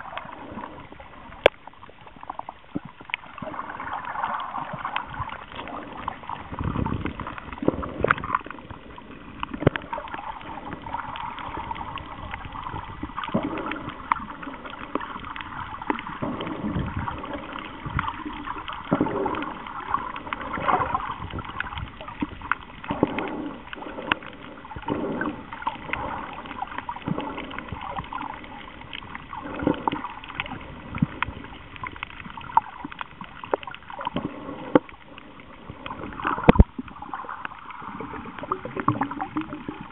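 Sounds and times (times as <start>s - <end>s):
underwater gurgling and sloshing: 0.0s - 39.9s.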